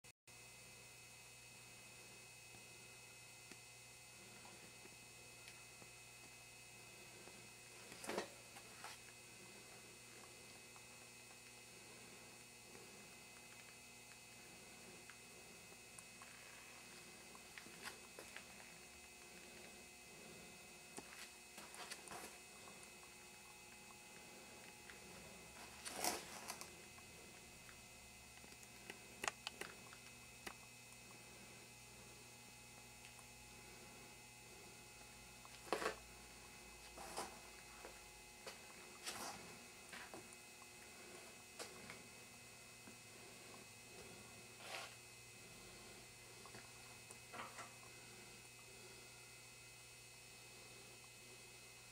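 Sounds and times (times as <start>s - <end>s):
faint steady hum: 0.3s - 51.9s.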